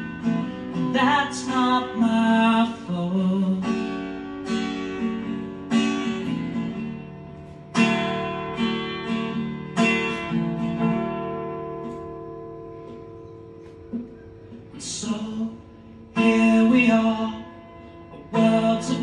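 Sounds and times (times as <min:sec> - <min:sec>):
acoustic guitar chords: 0:00.0 - 0:19.0.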